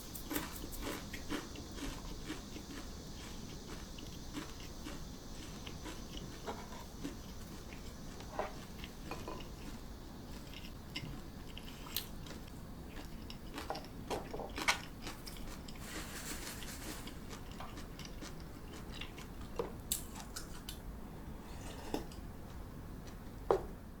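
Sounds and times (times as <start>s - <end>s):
person chewing food: 0.0s - 20.8s, 21.4s - 23.3s.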